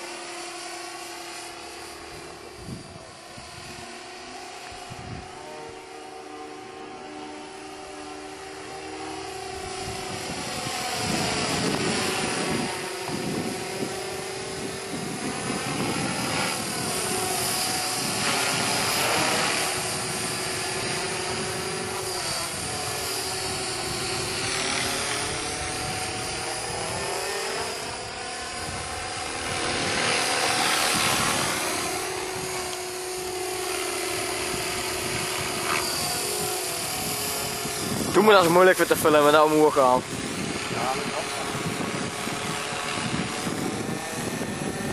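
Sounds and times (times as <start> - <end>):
model helicopter rotor whine: 0.0 - 44.9.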